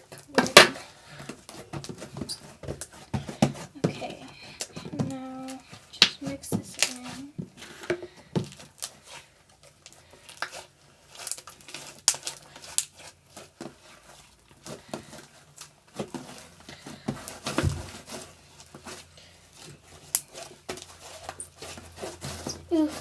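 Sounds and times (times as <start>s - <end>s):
fork stirring crackling slime: 0.0s - 23.0s.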